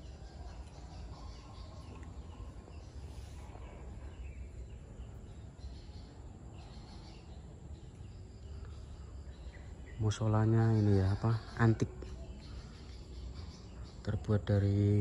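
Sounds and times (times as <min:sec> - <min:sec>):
small bird chirps: 0:00.0 - 0:15.0.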